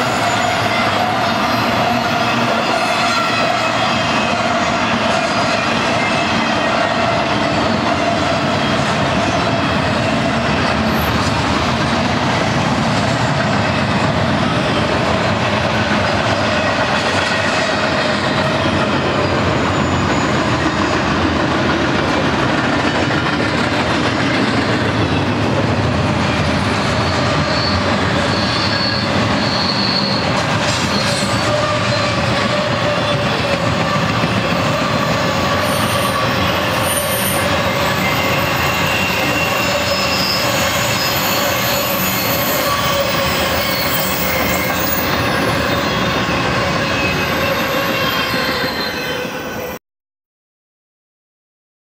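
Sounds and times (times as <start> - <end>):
rumble of train wheels on rail: 0.0 - 49.7.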